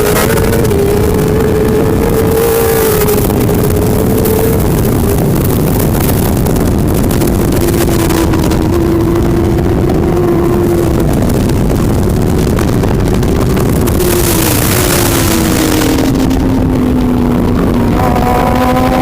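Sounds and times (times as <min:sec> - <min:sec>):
superbike engines at high revs: 0:00.0 - 0:19.0.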